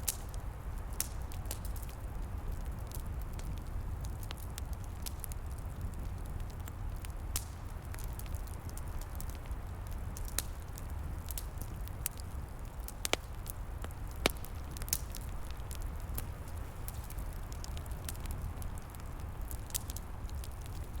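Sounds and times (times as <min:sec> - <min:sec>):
sharp pops from fire: 0:00.0 - 0:21.0
wood fire crackling: 0:00.0 - 0:21.0.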